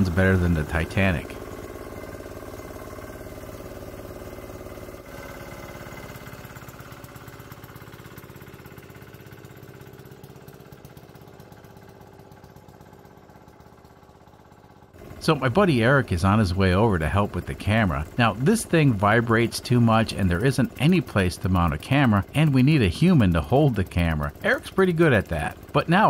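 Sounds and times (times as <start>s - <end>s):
small diesel engine running: 0.0s - 26.0s.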